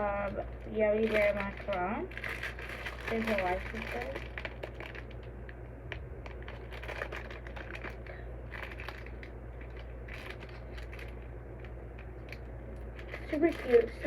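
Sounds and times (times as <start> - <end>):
low steady hum: 0.0 - 14.0
plastic packaging crinkling: 0.0 - 14.0.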